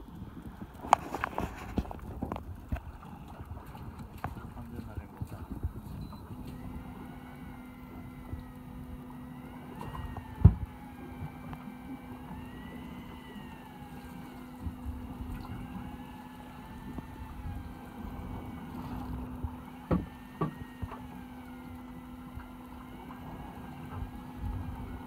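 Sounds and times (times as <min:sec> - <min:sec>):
boat engine idling: 0:00.0 - 0:25.0
faint wavering whine: 0:00.0 - 0:25.0.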